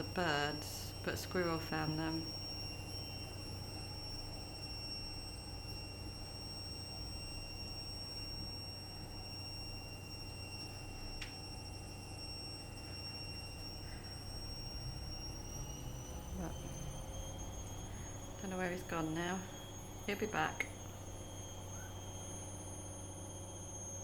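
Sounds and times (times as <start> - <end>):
faint high-pitched whine: 0.0 - 24.0
washing machine hum: 0.0 - 24.0.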